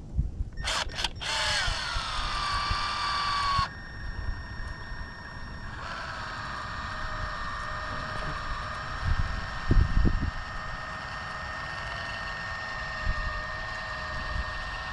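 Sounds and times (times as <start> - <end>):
electric power tool motor: 0.6 - 14.9.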